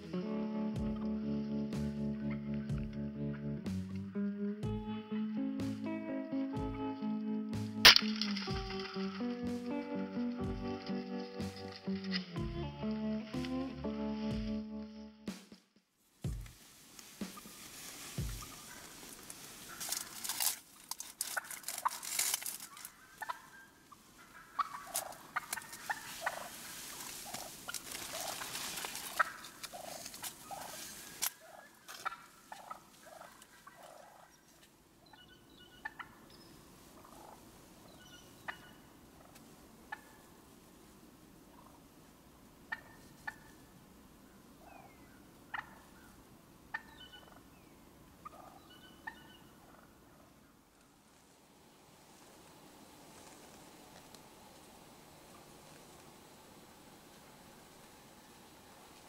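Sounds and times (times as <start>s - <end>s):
wild turkeys calling: 0.0s - 14.6s, 16.7s - 51.3s, 52.2s - 58.9s.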